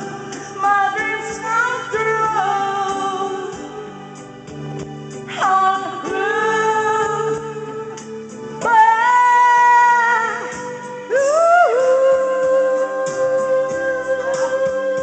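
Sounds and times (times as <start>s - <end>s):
keyboard backing track: 0.0s - 15.0s
person singing karaoke: 0.0s - 15.0s.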